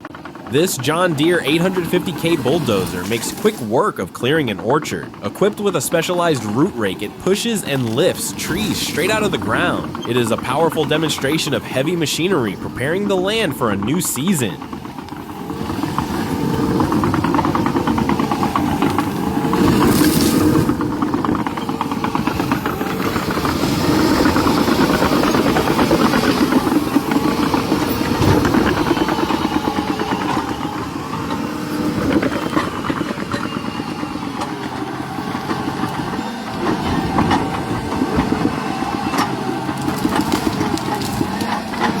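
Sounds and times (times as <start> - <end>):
bulldozer diesel engine under load: 0.0 - 42.0.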